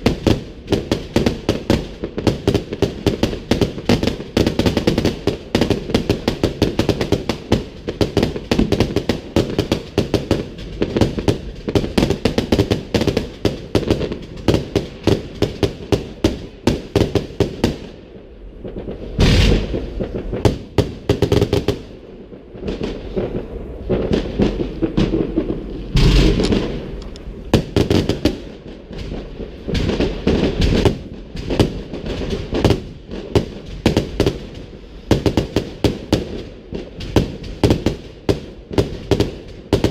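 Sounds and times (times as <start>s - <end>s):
fireworks crackling: 0.0s - 39.9s
heavy firework booms: 0.0s - 39.9s.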